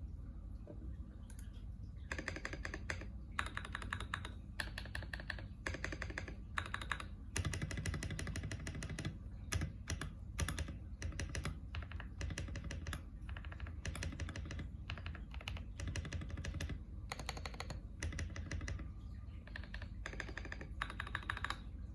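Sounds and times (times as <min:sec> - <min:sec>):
mechanical keyboard typing: 0:02.1 - 0:21.8.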